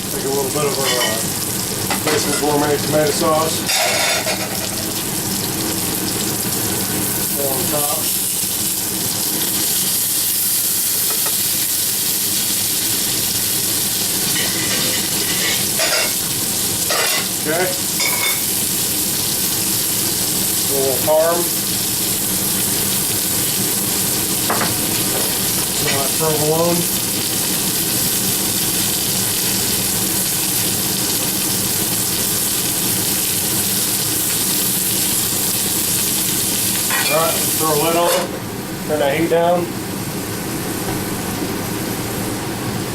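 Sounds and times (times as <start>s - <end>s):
chicken sizzling in a pan: 0.0s - 40.9s.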